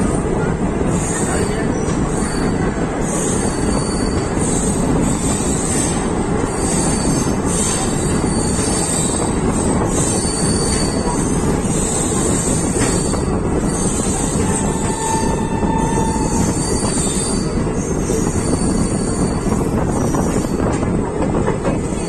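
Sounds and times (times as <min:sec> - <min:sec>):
train coaches rumbling on track: 0:00.0 - 0:22.0.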